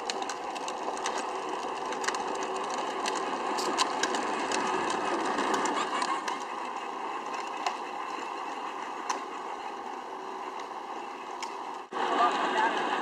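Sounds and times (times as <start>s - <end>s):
plastic wheels rolling on pavement: 0.0s - 13.0s
toy tractor electric motor whir: 0.0s - 13.0s.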